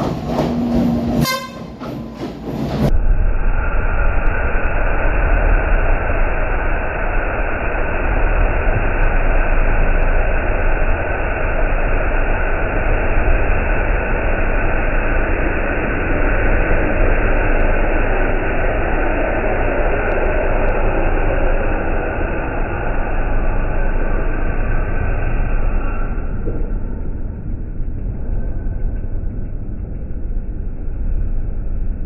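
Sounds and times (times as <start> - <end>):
train running rumble: 0.0 - 32.0.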